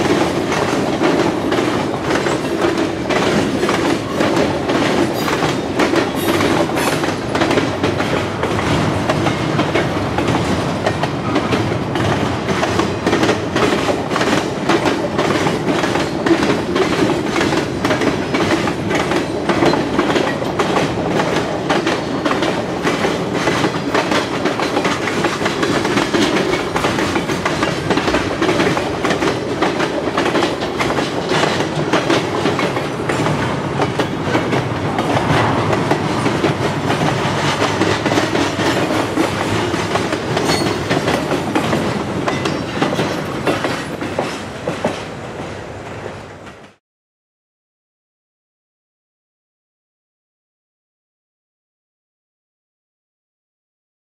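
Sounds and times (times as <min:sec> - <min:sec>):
train wheels clattering over rail joints: 0:00.0 - 0:46.8.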